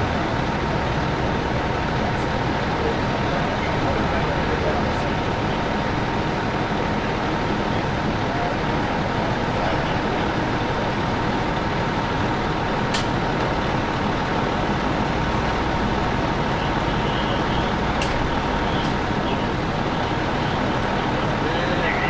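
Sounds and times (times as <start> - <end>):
idling engines and traffic: 0.0 - 22.0.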